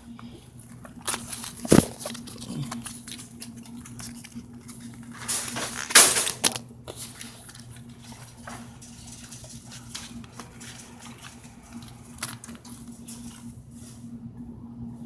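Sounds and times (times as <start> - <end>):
low electrical hum: 0.0 - 15.0
handling noise rustling and clicks: 0.6 - 14.0.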